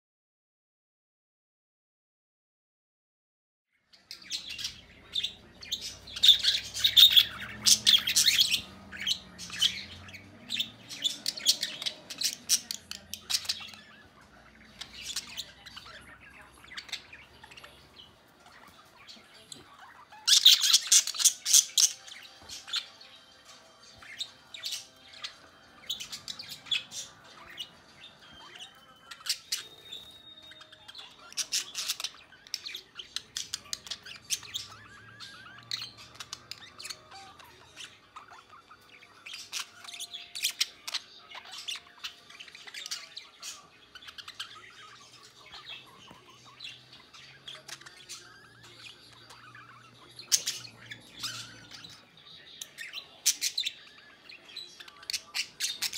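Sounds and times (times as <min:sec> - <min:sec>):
budgerigars chirping and chattering: 0:03.8 - 0:55.9.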